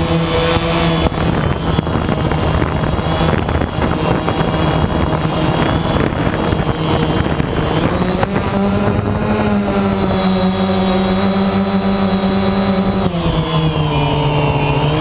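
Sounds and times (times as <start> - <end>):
motor running: 0.0 - 15.0.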